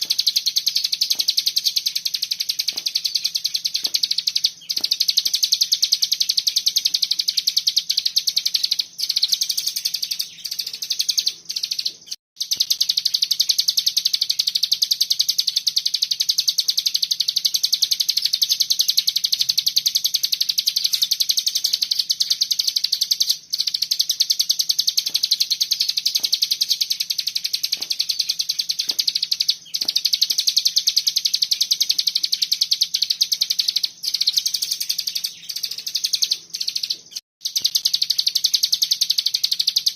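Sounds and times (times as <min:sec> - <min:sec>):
bird high-pitched rapid trill: 0:00.0 - 0:39.9.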